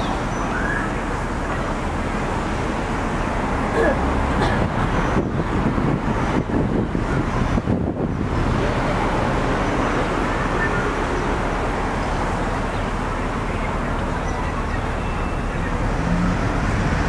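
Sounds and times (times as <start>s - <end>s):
city road traffic: 0.0s - 17.0s.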